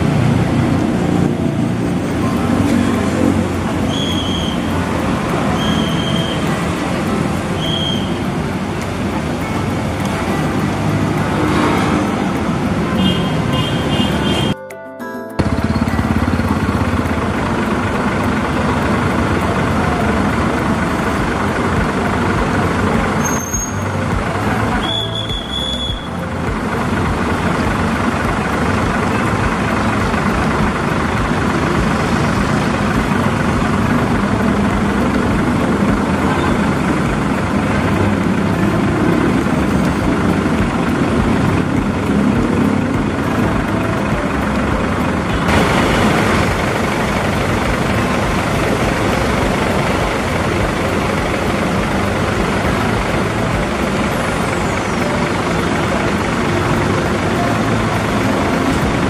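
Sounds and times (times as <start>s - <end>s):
diesel engine idling: 0.0s - 14.6s, 15.4s - 59.0s.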